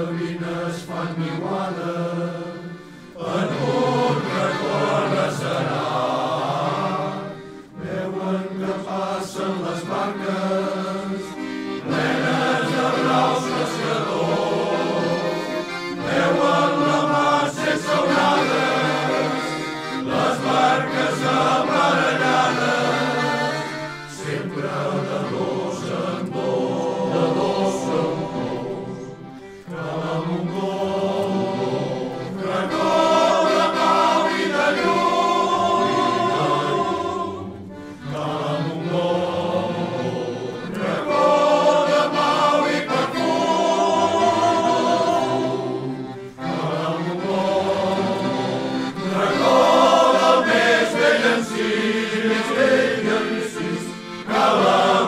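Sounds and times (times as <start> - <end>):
male choir singing in harmony: 0.0 - 55.0.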